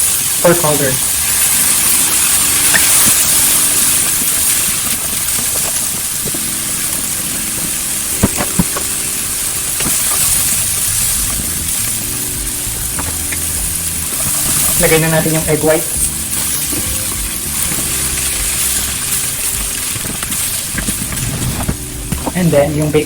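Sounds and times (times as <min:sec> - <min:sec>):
rice sizzling in a hot pan: 0:00.0 - 0:23.0.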